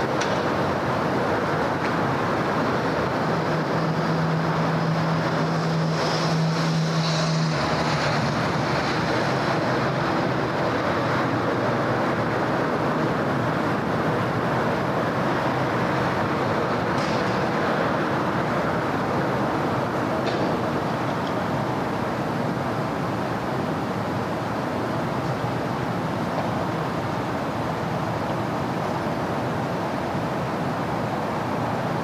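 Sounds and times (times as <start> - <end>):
passing vehicles on road: 0.0 - 32.0.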